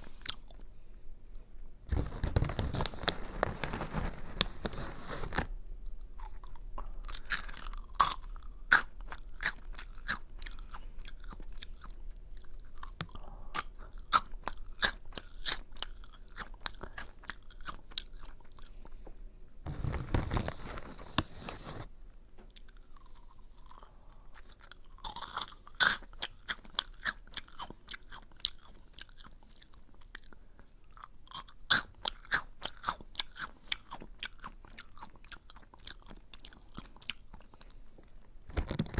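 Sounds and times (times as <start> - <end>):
crunchy snack chewing: 1.9 - 5.5, 6.1 - 18.9, 19.7 - 21.9, 22.5 - 38.9.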